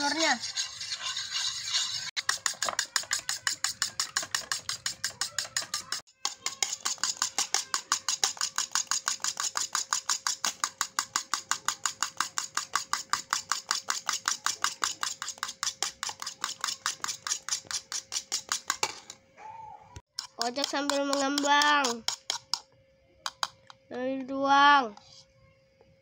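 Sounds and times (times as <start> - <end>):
fork whisking in plastic bowl: 0.0 - 19.0, 20.1 - 22.6.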